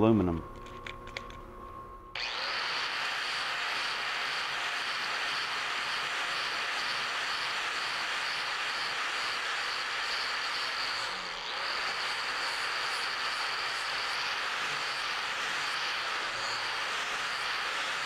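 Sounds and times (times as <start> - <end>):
angle grinder motor whine: 0.6 - 18.0.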